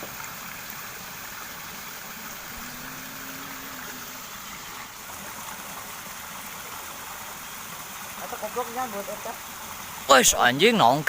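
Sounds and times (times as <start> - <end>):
water rushing into ditch: 0.0 - 11.0.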